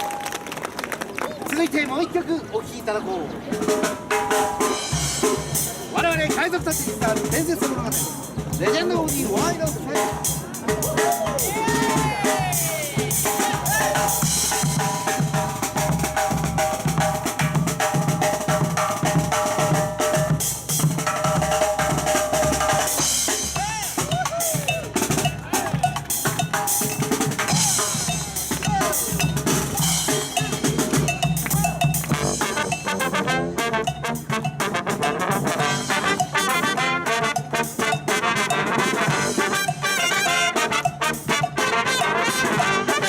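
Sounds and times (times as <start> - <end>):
brass band playing: 3.5 - 43.0
marching drums groove: 3.5 - 43.0.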